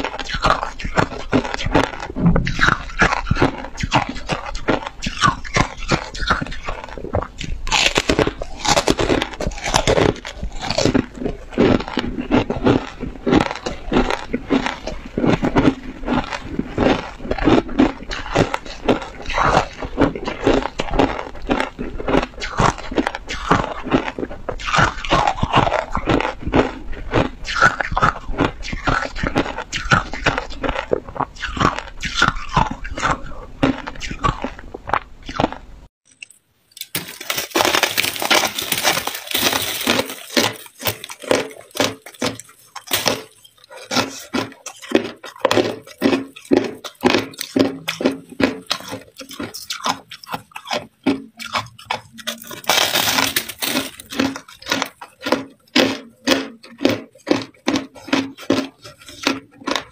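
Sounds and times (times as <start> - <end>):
ice crunching while chewed: 0.0 - 59.9.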